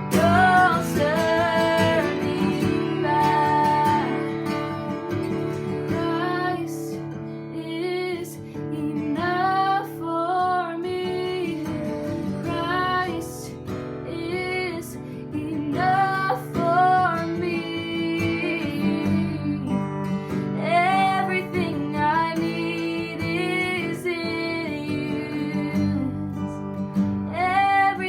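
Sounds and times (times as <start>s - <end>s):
strummed acoustic guitar: 0.0s - 28.0s
woman singing: 0.0s - 28.0s.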